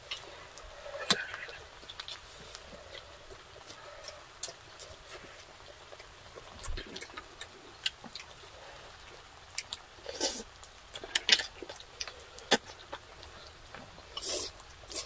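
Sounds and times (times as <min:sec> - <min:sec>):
chewing smacks: 0:00.1 - 0:15.0.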